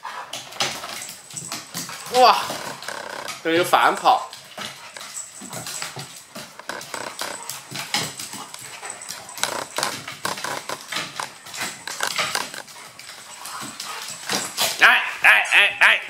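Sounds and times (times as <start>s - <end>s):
dog claws clicking on wooden floor: 0.2s - 14.8s.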